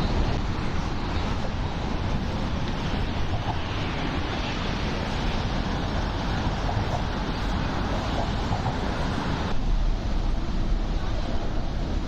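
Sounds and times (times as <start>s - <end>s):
city traffic rushing: 0.0s - 12.0s.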